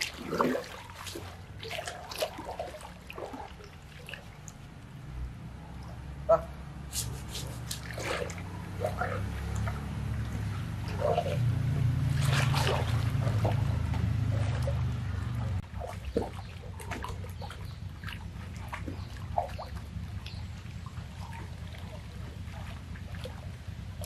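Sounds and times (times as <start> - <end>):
low steady hum: 0.0 - 24.0
river water splashing: 0.0 - 24.0.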